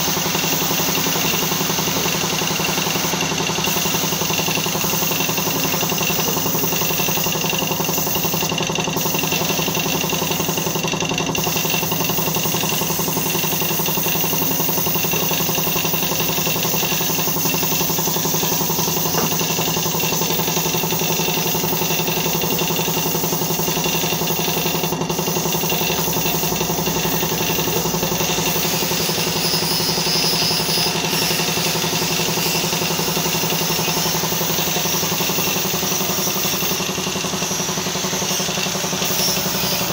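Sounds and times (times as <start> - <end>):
air compressor humming and hissing: 0.0 - 39.9.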